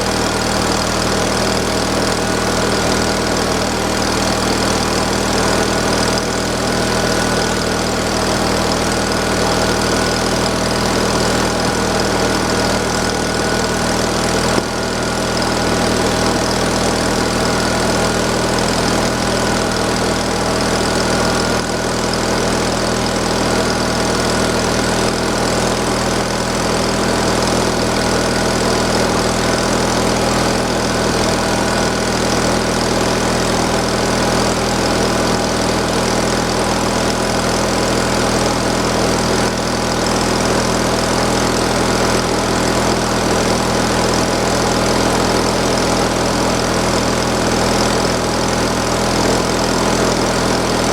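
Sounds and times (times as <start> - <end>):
gasoline engine idling: 0.0 - 50.9.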